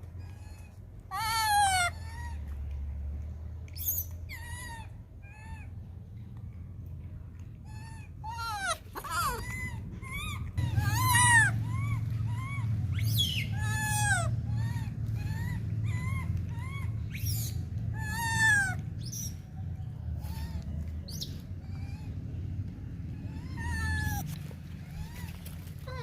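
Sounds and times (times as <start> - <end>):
high-pitched animal cries: 0.2 - 2.6, 3.8 - 5.7, 7.6 - 19.3, 20.2 - 22.4, 23.1 - 26.0.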